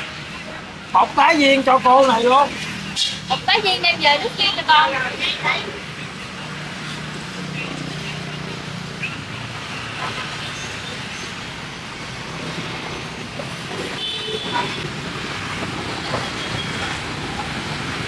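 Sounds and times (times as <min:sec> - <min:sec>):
street traffic din: 0:00.0 - 0:18.0.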